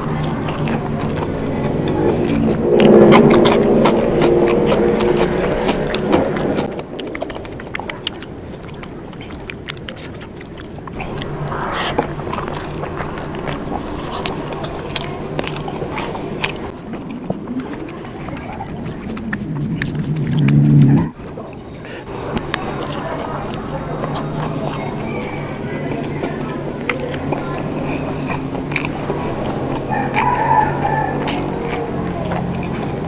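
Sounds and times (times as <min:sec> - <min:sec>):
person chewing food: 0:00.0 - 0:33.0
wet mouth clicks and smacks: 0:00.0 - 0:33.0.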